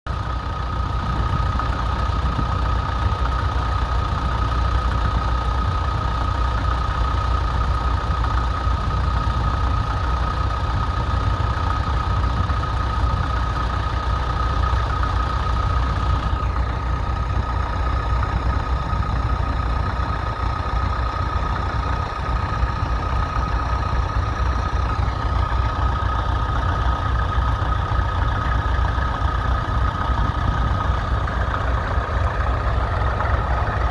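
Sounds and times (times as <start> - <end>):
constant high whine: 0.1 - 33.9
tractor engine running: 0.1 - 33.9.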